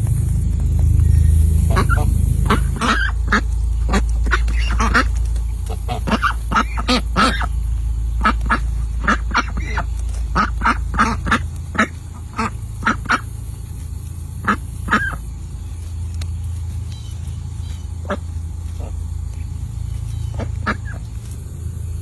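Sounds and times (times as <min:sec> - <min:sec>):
steady low rumble: 0:00.0 - 0:22.0
ducks quacking: 0:00.8 - 0:22.0.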